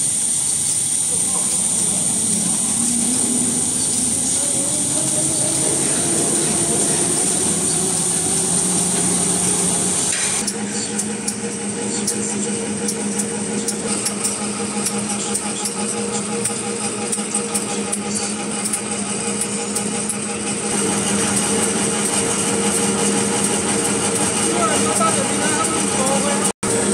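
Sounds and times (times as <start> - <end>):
paper machine whirring: 0.0 - 26.9
printing rollers humming: 0.0 - 26.9
regular mechanical ticking: 0.0 - 26.9.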